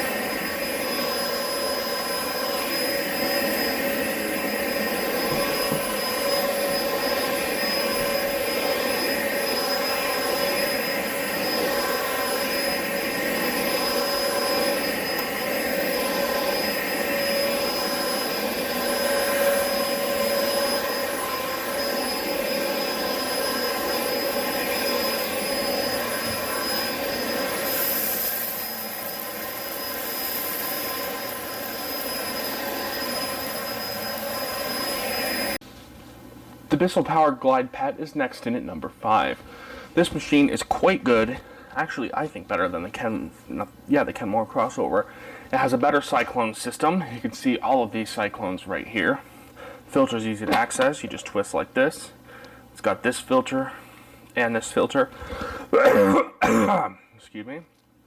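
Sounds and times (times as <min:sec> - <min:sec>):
vacuum cleaner running: 0:00.0 - 0:47.0, 0:54.6 - 0:55.8.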